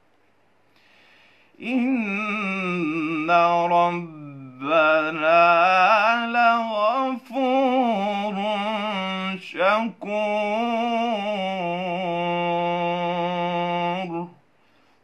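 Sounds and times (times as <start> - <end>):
man reciting melodically: 1.6 - 14.4.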